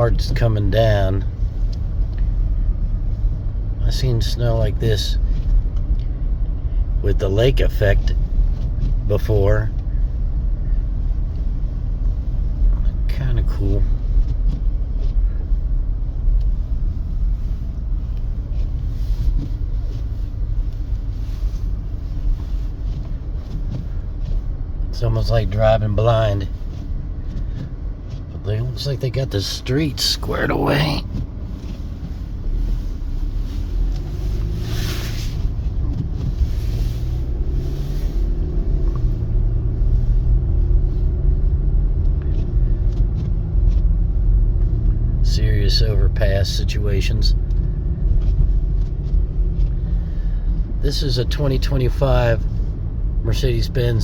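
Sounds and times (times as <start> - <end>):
car driving on snow: 0.0 - 54.0
faint engine hum: 0.0 - 54.0
road and tyre noise: 0.0 - 54.0.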